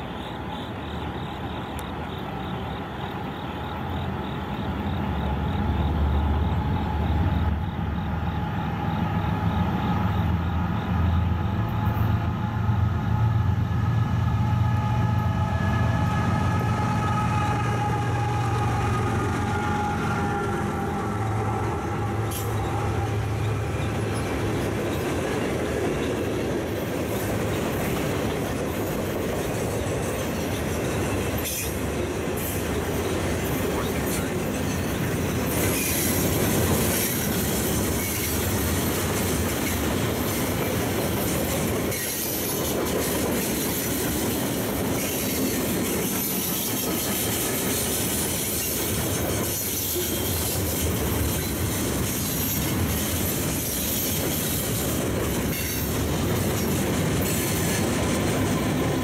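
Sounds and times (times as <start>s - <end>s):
diesel locomotive engines rumbling: 0.0s - 59.0s
freight cars rolling past: 0.0s - 59.0s.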